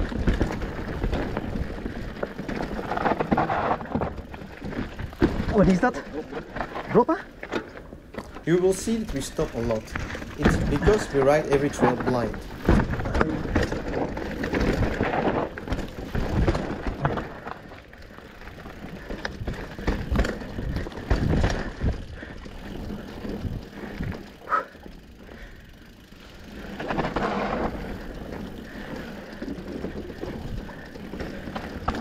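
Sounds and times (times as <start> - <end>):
bike knocking and rattling: 0.0 - 32.0
bike tyres on dirt: 0.0 - 32.0.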